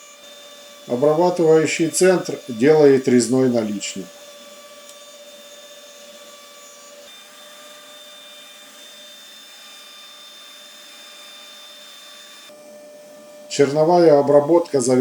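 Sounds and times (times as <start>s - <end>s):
router spindle whine: 0.0s - 15.0s
wood cutting hiss: 0.0s - 15.0s.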